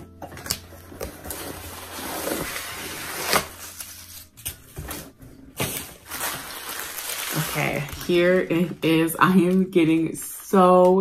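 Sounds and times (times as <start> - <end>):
cardboard packaging rustling: 0.3 - 9.5.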